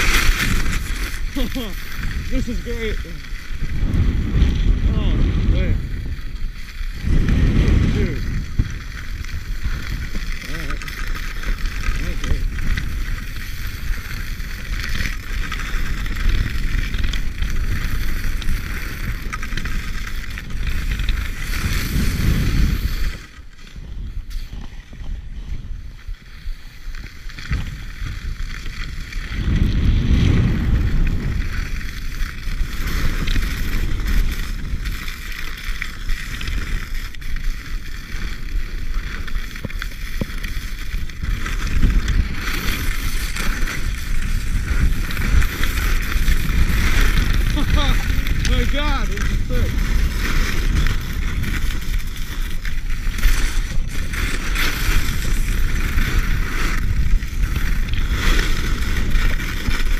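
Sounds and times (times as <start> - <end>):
skis scraping over snow: 0.0 - 59.9
wind rushing over microphone: 0.0 - 59.9.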